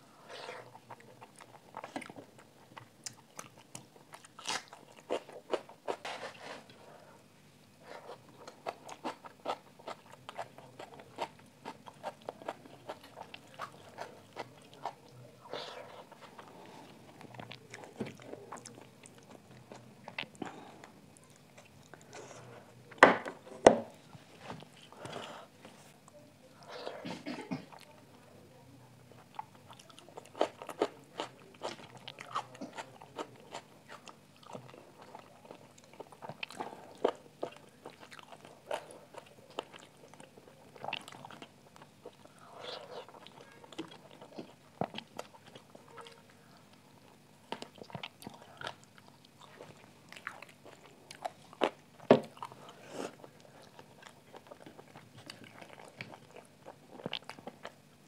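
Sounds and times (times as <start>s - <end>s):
wet chewing: 0.3s - 6.3s, 7.8s - 22.2s, 29.2s - 57.9s.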